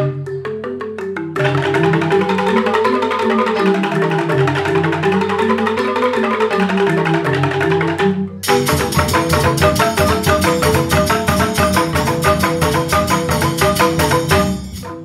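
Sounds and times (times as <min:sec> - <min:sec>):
bamboo xylophones played with mallets: 0:00.0 - 0:15.0.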